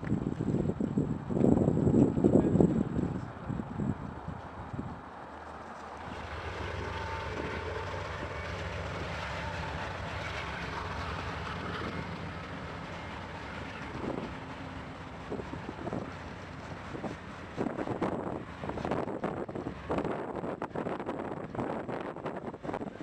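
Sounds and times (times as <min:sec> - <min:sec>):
diesel locomotive engine drone: 0:00.0 - 0:23.0
train wheels rumbling on rail: 0:00.0 - 0:23.0.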